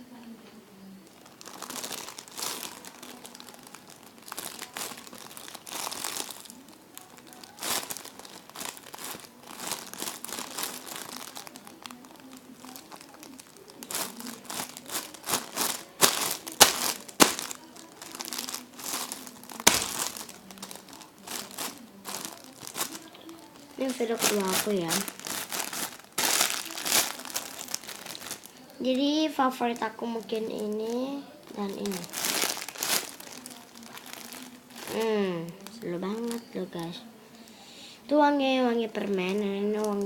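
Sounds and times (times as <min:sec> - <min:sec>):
plastic bag crinkling: 0:01.0 - 0:37.6, 0:38.9 - 0:40.0.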